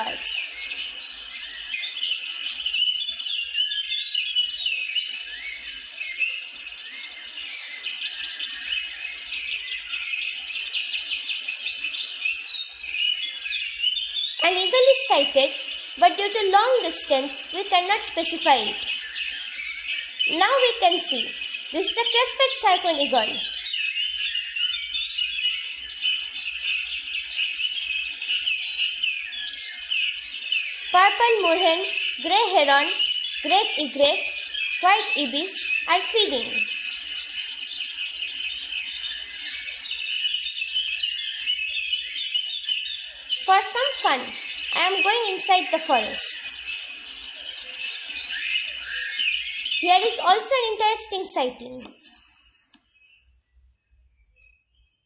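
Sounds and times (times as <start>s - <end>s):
birds chirping: 0.0s - 53.4s.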